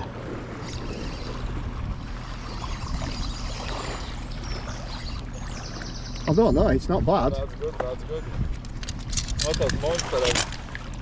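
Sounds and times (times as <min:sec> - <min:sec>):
river water running: 0:00.0 - 0:06.6, 0:07.4 - 0:11.0.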